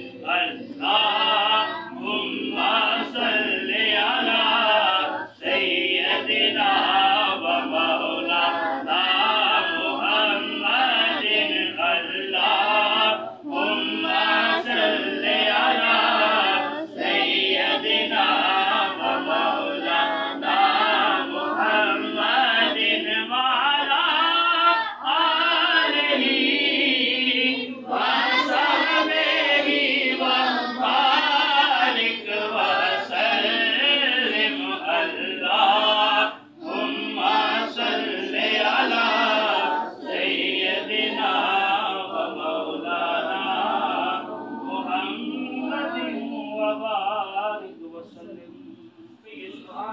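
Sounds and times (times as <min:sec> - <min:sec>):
group singing a chant: 0:00.0 - 0:49.9.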